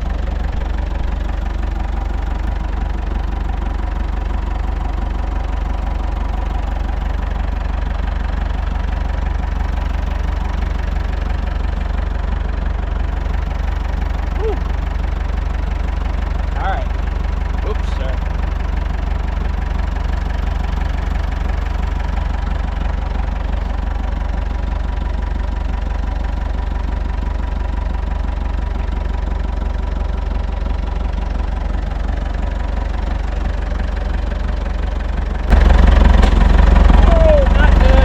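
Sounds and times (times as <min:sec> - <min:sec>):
tractor engine rumbling: 0:00.0 - 0:38.0.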